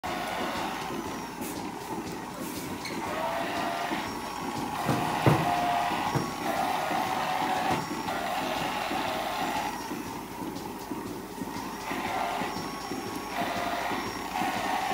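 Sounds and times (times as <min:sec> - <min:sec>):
milking machinery running: 0:00.0 - 0:14.9.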